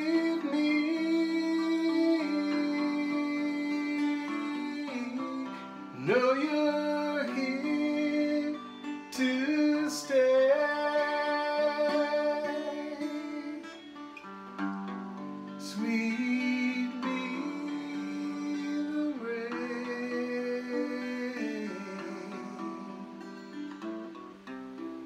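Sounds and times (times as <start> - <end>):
guitar accompaniment: 0.0 - 25.0.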